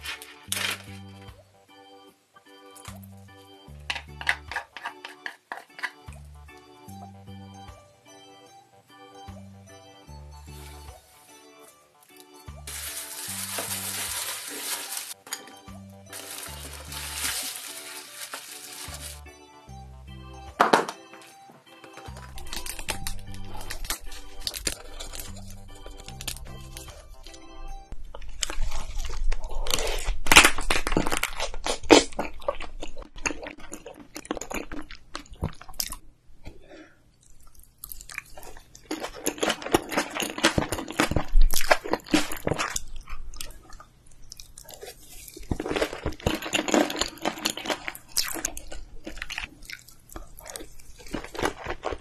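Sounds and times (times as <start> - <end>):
person chewing and crunching food: 3.8 - 6.7, 10.4 - 19.3, 21.8 - 52.0.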